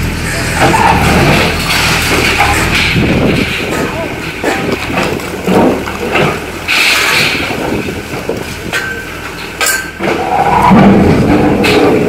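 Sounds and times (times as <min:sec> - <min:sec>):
excavator diesel engine running: 0:00.0 - 0:12.0
rubble knocking and crunching: 0:00.5 - 0:12.0.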